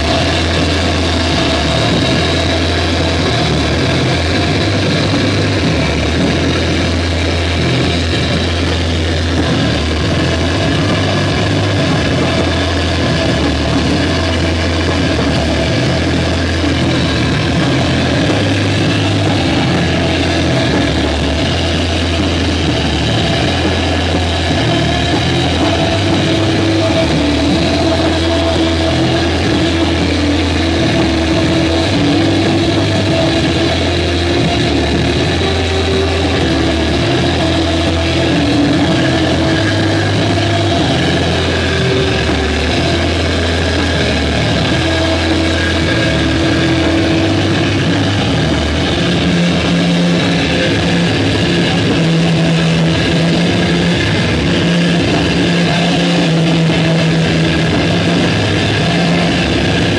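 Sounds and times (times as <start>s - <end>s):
bass guitar droning: 0.0s - 59.9s
distorted electric guitar: 0.0s - 59.9s.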